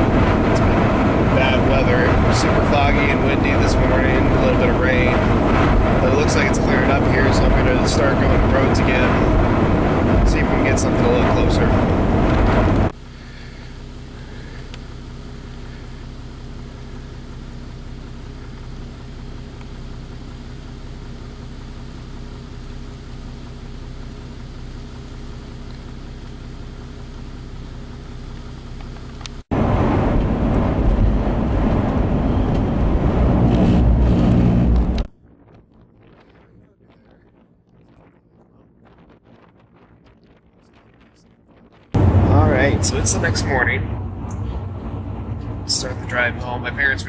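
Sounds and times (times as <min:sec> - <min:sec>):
car engine and road hum: 0:00.0 - 0:47.0
rough rushing noise with rumble: 0:00.0 - 0:47.0.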